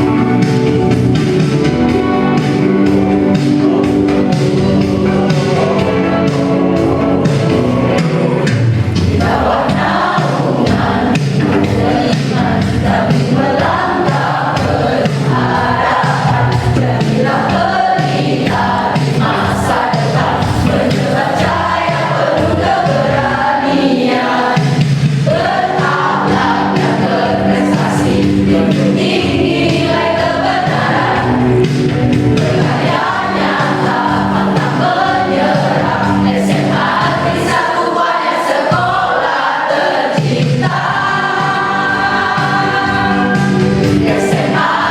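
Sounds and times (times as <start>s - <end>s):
mixed choir singing a march: 0.0s - 44.9s.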